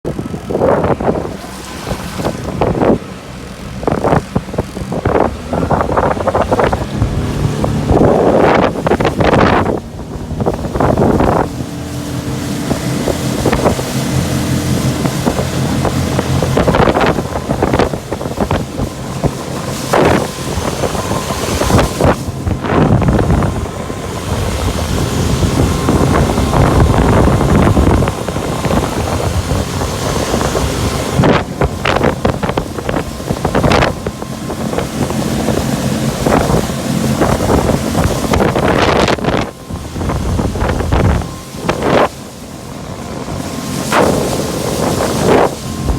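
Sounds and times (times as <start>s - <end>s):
outboard motor running: 0.0s - 45.9s
wind buffeting microphone: 0.0s - 45.9s.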